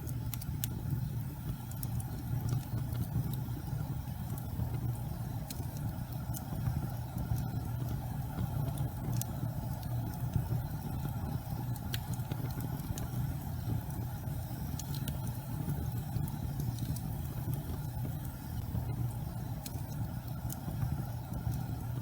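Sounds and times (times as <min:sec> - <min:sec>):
faint crackles and ticks: 0:00.0 - 0:22.0
gas fireplace flames rumbling: 0:00.0 - 0:22.0.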